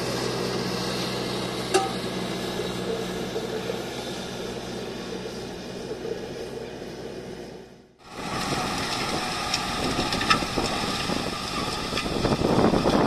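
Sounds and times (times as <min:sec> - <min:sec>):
harrow discs scraping soil: 0:00.0 - 0:13.0
tractor diesel engine under load: 0:00.0 - 0:13.0.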